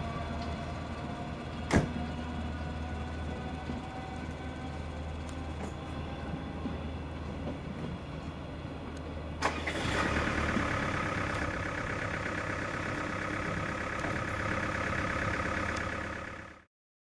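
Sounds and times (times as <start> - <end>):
low diesel engine hum: 0.0 - 16.7.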